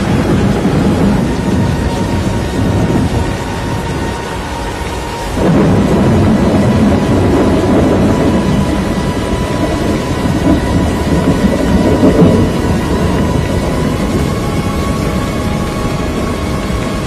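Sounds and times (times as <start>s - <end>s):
rain: 0.0s - 17.0s
wind rumbling on microphone: 0.0s - 17.0s.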